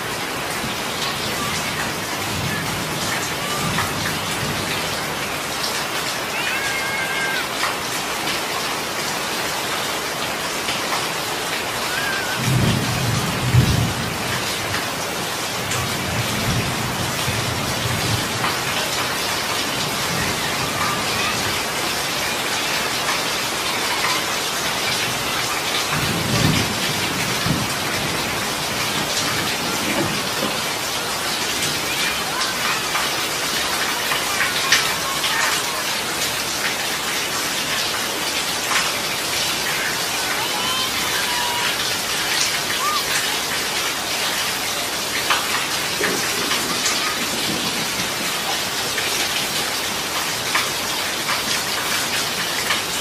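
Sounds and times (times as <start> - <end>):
heavy rain on street and roofs: 0.0 - 53.0.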